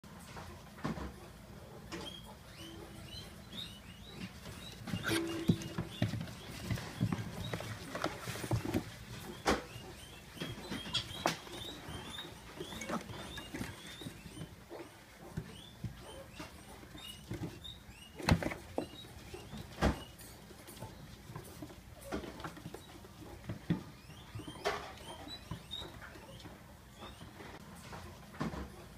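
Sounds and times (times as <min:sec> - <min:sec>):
piglets pattering on wood shavings: 0:02.1 - 0:28.9.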